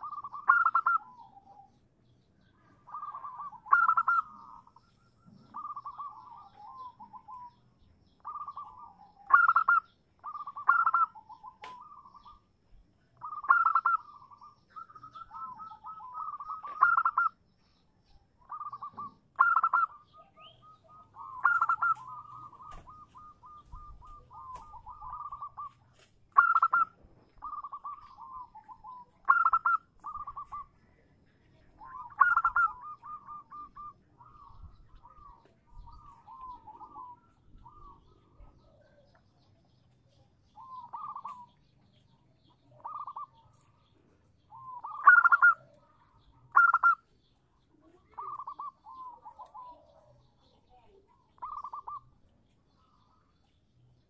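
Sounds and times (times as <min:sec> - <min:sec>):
dove cooing: 0:00.0 - 0:01.8, 0:02.7 - 0:07.6, 0:08.2 - 0:12.4, 0:13.2 - 0:17.4, 0:18.4 - 0:39.2, 0:40.5 - 0:41.7, 0:42.4 - 0:47.1, 0:47.8 - 0:50.3, 0:51.1 - 0:52.1.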